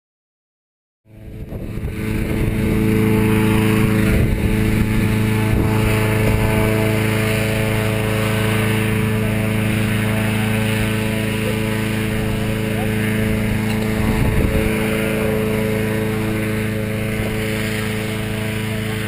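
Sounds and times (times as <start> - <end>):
balloon inflator fan running: 1.1 - 19.0.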